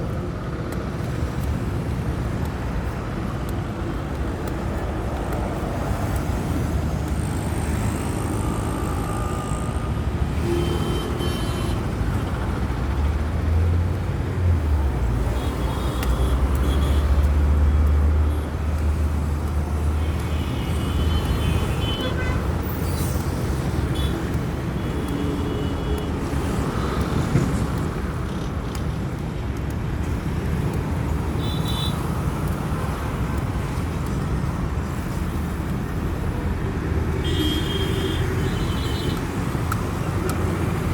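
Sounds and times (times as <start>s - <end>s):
road traffic passing: 0.0s - 40.9s.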